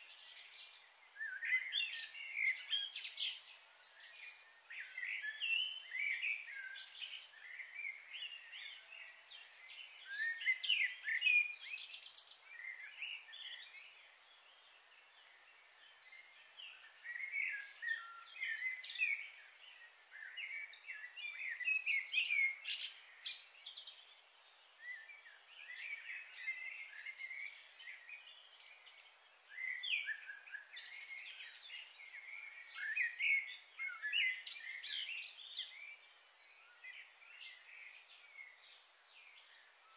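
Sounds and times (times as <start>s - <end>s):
faint steady hiss: 0.0s - 39.9s
wild birds chirping: 0.0s - 39.9s.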